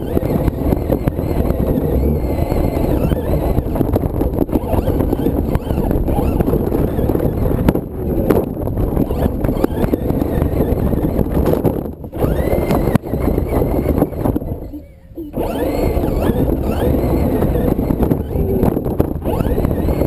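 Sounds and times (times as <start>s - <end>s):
toy truck motor whine: 0.0s - 20.0s.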